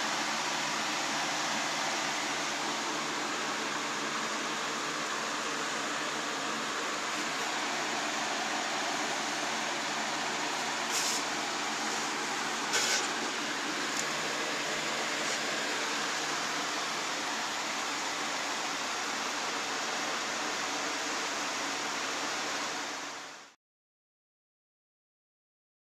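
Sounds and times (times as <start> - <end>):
fan whirring: 0.0 - 23.5.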